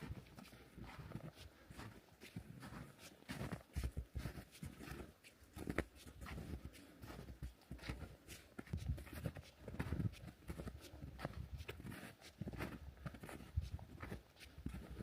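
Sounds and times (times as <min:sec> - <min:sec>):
footsteps in snow: 0:00.0 - 0:15.0.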